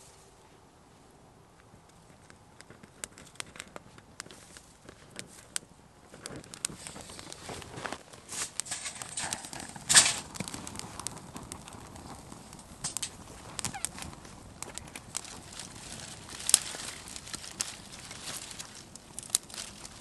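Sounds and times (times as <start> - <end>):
wood fire crackling and popping: 1.5 - 20.0
loud sharp crack of fire: 2.1 - 20.0.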